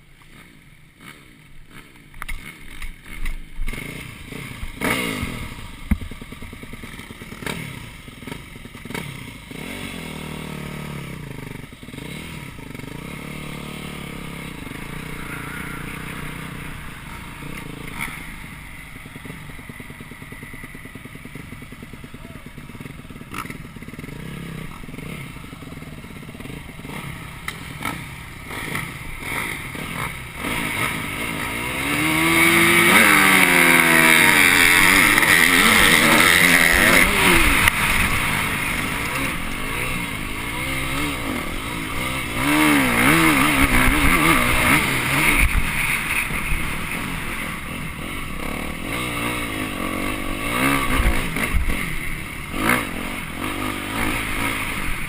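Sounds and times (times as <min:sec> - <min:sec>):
off-road motorcycle engine revving: 0:00.0 - 0:55.0.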